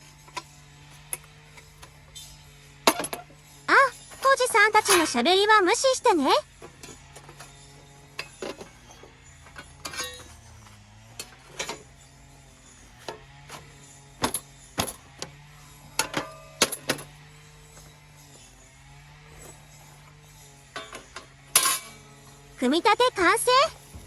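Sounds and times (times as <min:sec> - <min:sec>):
metal parts clicking and clanking: 0:00.0 - 0:18.5, 0:19.2 - 0:24.0.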